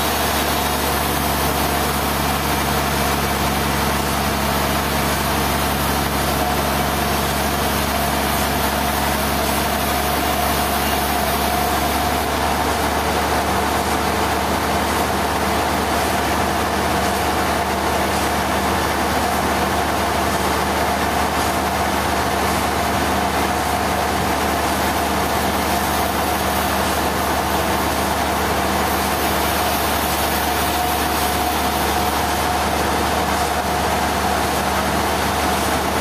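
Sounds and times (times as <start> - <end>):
sawmill machinery droning: 0.0 - 36.0.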